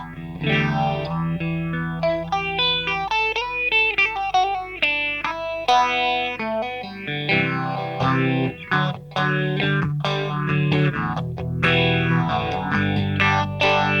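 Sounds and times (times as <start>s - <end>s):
electric guitar with phaser: 0.0s - 14.0s.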